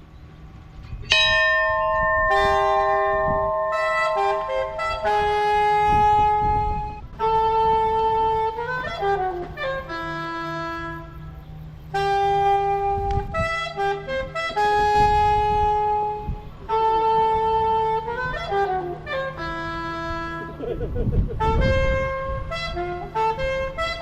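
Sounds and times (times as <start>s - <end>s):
saxophone slow melody: 1.3s - 20.8s, 21.4s - 24.0s.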